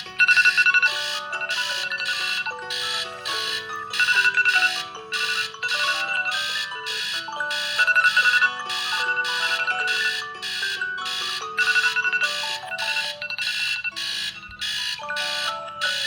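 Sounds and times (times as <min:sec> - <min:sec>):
smartphone alarm chime: 0:00.0 - 0:16.0.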